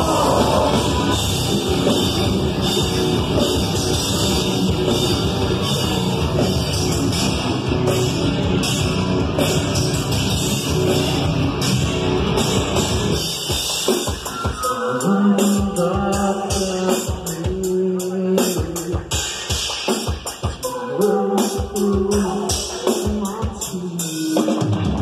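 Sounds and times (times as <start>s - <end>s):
distorted guitars: 0.0s - 25.0s
heavy metal band playing: 0.0s - 25.0s
pounding drum kit: 0.0s - 25.0s.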